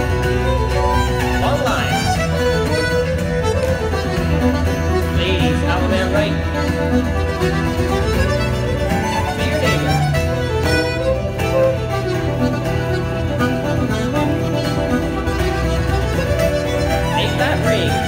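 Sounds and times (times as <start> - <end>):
button accordion: 0.0 - 18.0
fiddle playing: 0.0 - 18.0
strummed acoustic guitar: 0.0 - 18.0.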